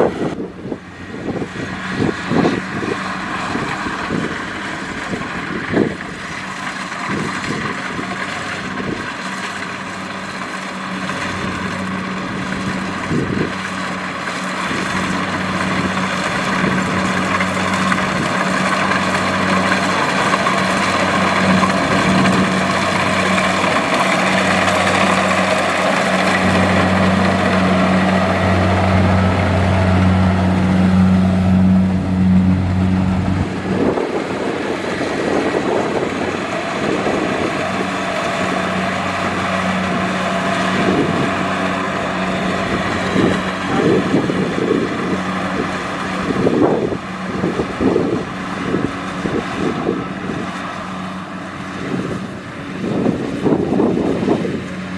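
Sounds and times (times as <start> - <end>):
engine knocks and clatter: 0.0 - 54.9
tractor engine running: 0.0 - 54.9.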